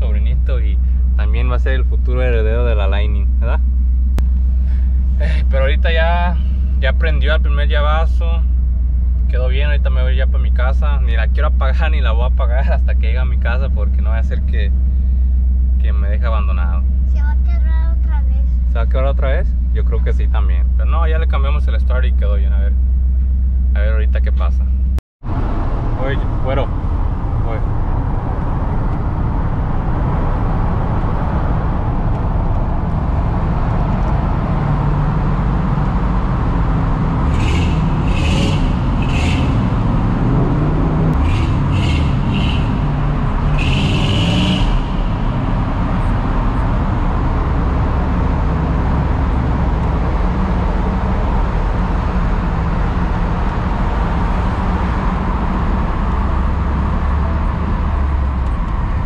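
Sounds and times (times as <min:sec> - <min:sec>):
engine and road rumble in cab: 0:00.0 - 0:59.0.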